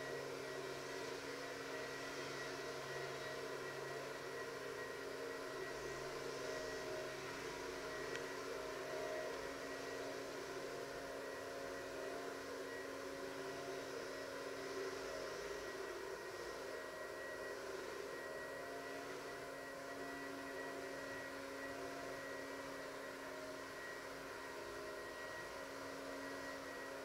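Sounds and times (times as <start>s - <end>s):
faint high whine: 0.0s - 27.0s
mechanical hum and hiss: 0.0s - 27.0s.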